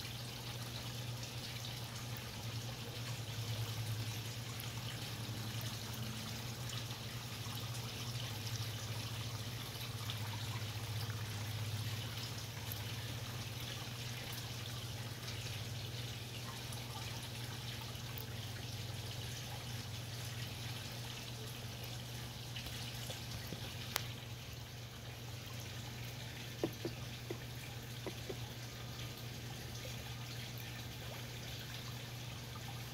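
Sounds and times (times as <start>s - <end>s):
low steady hum: 0.0s - 32.9s
water trickling into pond: 0.0s - 32.9s.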